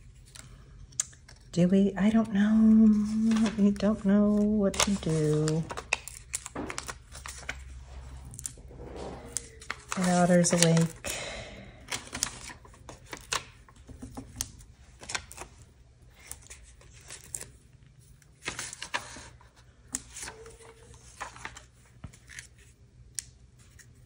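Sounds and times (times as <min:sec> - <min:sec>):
paper handling: 0:00.0 - 0:11.3, 0:11.9 - 0:24.0.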